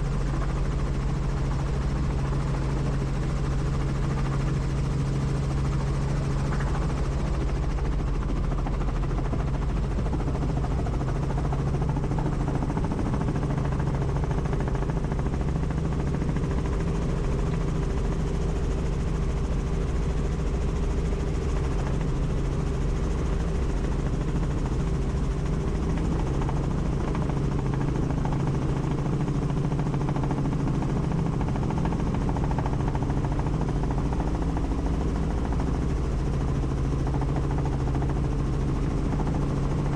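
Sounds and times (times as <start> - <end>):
helicopter rotor running: 0.0 - 39.9.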